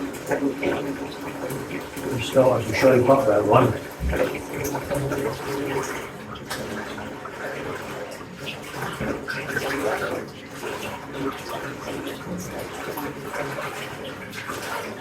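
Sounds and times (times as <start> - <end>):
tap water running into bathtub: 0.0 - 15.0.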